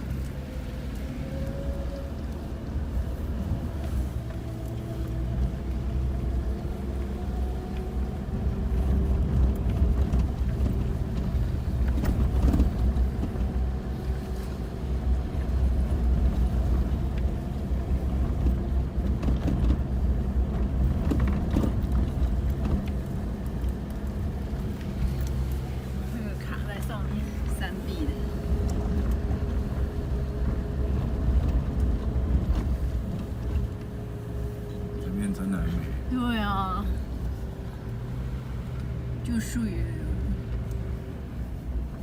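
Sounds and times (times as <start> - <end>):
engine and road rumble: 0.0 - 42.0.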